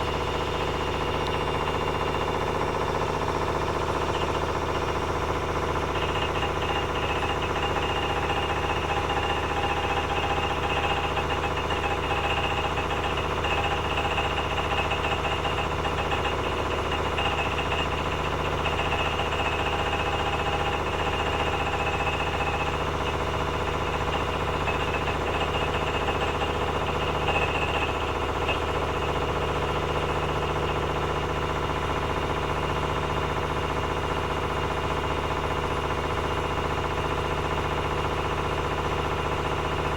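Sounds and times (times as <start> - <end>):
washing machine spinning hum: 0.0 - 39.9
fast knocking inside machine: 0.2 - 33.2.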